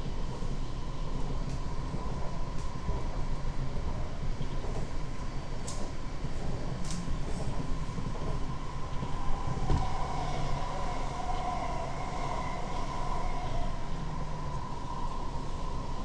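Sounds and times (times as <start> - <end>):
passing train: 0.0 - 16.0.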